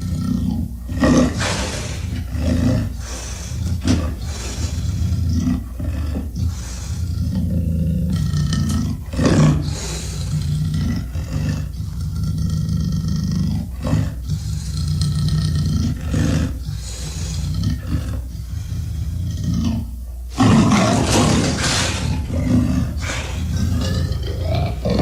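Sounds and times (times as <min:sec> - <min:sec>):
dinosaur roars and growls: 0:00.0 - 0:25.0.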